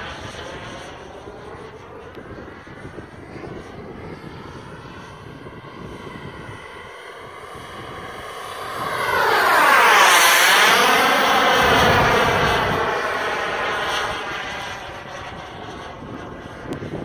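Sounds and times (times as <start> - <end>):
jet engine flying past: 0.0 - 17.0.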